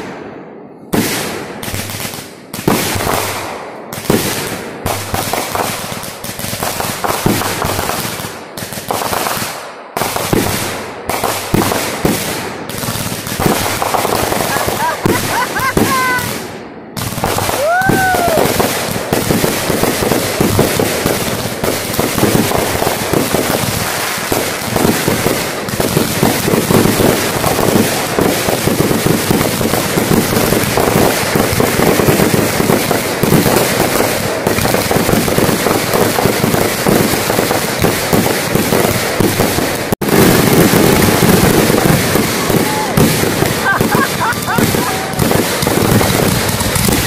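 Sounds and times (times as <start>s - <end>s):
fireworks banging and crackling: 0.0s - 47.0s.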